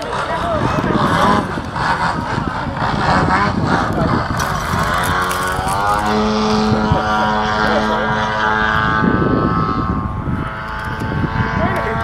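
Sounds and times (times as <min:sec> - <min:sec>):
model plane engine and propeller: 0:00.0 - 0:12.0.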